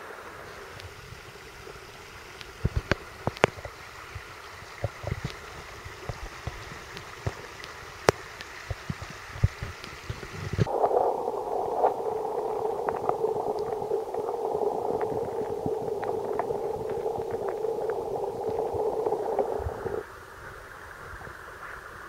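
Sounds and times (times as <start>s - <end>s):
muffled underwater stream rush: 0.0s - 22.0s
stream hissing: 0.0s - 22.0s.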